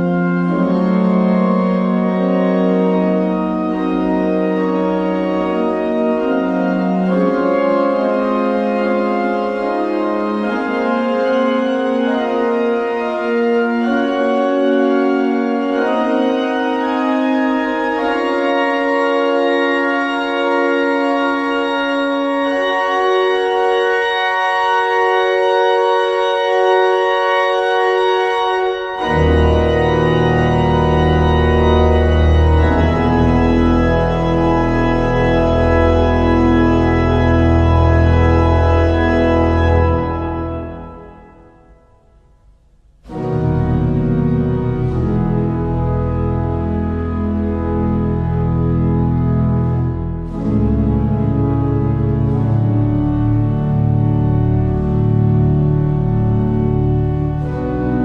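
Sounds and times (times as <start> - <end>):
organ sustained chords: 0.0 - 58.0.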